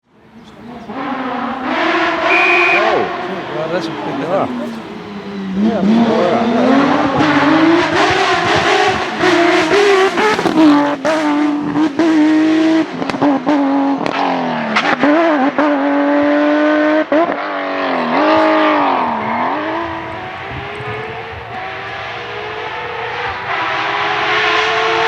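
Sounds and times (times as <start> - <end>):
rally car engine at high revs: 0.1 - 25.0.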